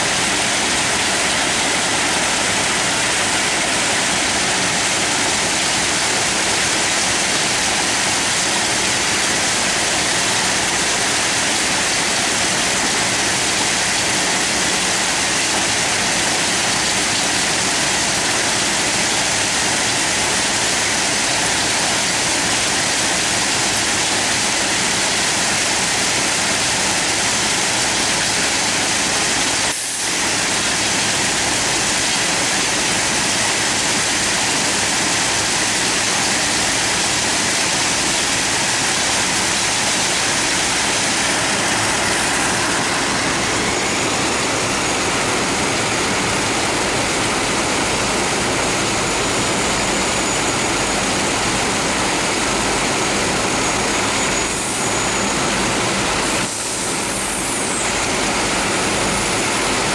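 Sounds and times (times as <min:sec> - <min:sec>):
machinery rushing noise: 0:00.0 - 0:59.9.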